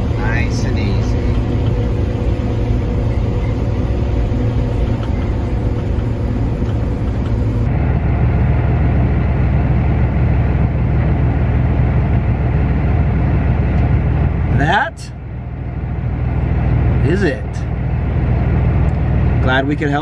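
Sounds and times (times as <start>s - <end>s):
combine harvester drone: 0.0s - 20.0s.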